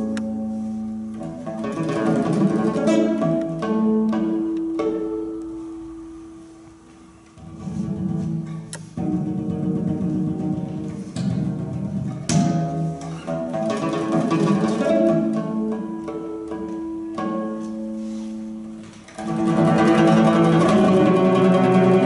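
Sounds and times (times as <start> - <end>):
folk instrument orchestra: 0.0 - 22.0
plucked bass domra notes: 0.0 - 22.0.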